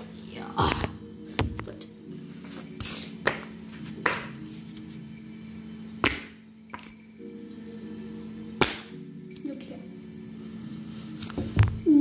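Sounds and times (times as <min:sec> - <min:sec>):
low background tone: 0:00.0 - 0:12.0.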